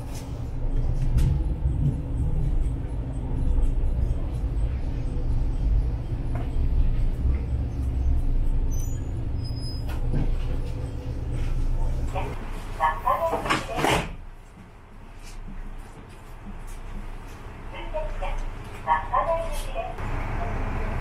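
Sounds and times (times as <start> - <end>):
railcar engine rumbling: 0.0 - 21.0.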